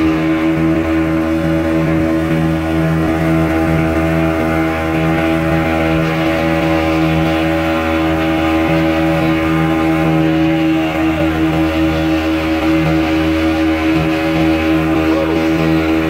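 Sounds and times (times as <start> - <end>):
speedboat engine droning: 0.0 - 16.0
water rushing and spray: 0.0 - 16.0.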